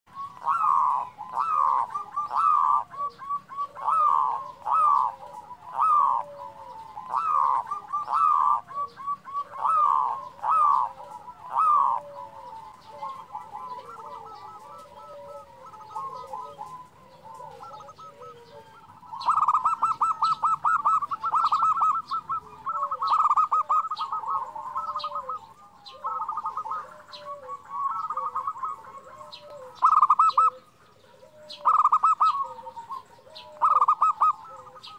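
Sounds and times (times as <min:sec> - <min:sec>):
dove cooing: 0:00.1 - 0:34.9.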